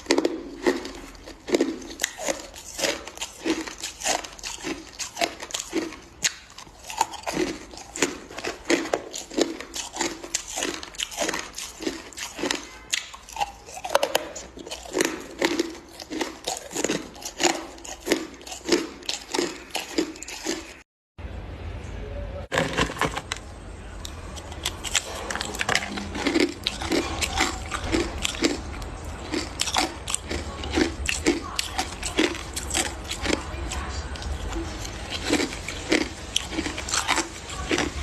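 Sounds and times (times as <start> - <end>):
person chewing crushed ice: 0.0 - 20.8, 22.5 - 38.0.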